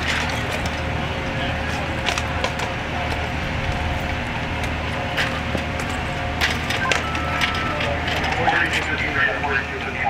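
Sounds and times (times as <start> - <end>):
faint steady whine: 0.0 - 10.0
fire truck engines humming: 0.0 - 10.0.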